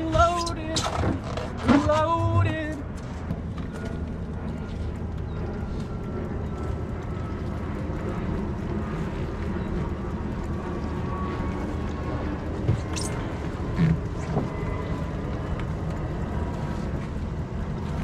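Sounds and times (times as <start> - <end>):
outboard engines droning: 0.0 - 18.0.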